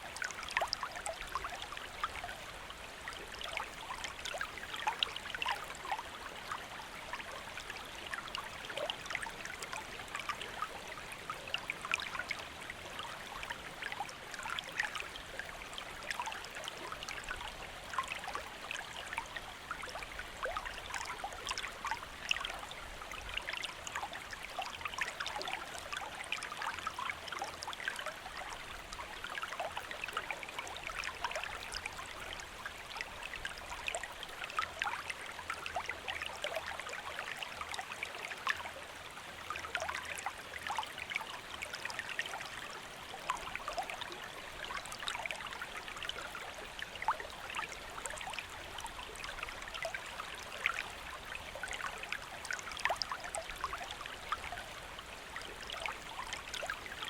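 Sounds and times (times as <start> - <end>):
stream flowing with splashes: 0.0 - 57.0.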